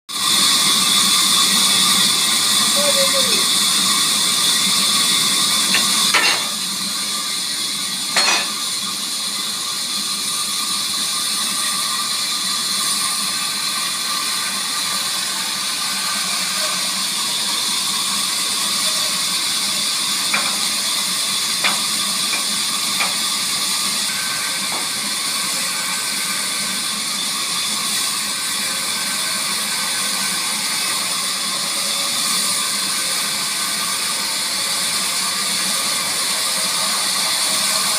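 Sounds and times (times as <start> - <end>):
sawmill machinery running: 0.1 - 37.9.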